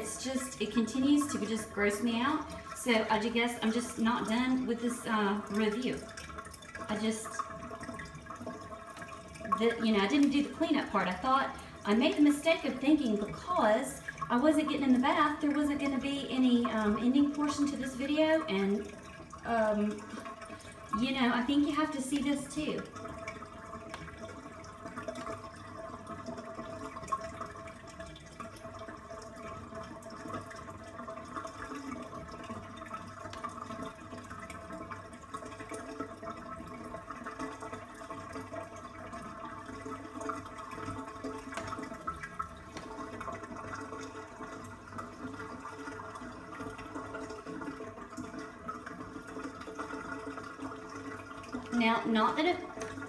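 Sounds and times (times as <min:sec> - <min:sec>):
bath water draining: 0:00.0 - 0:53.0.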